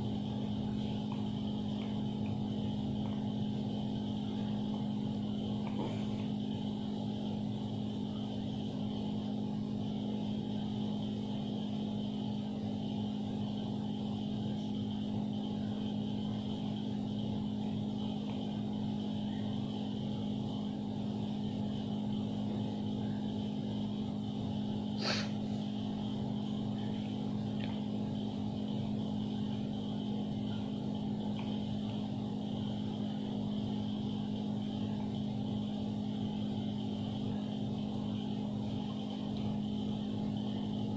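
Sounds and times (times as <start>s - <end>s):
steady mechanical hum: 0.0s - 40.9s.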